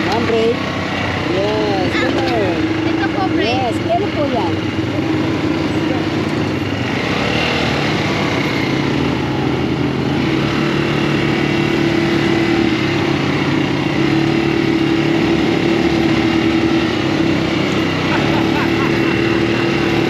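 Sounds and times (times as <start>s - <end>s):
small engine humming: 0.0s - 20.0s.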